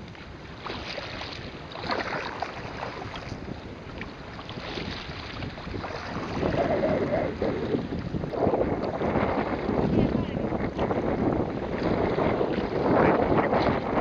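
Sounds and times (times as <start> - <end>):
sea water splashing: 0.0 - 14.0
wind buffeting microphone: 0.0 - 14.0.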